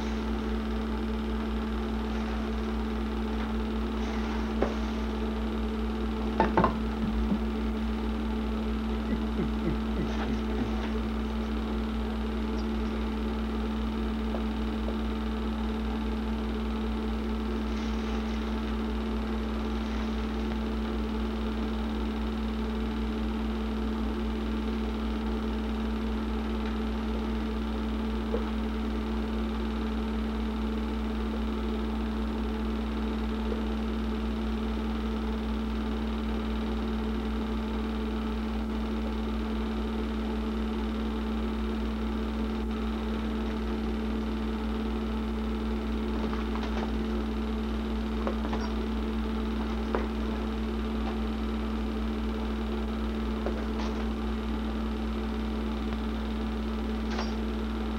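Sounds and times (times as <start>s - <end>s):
film projector running: 0.0s - 57.9s.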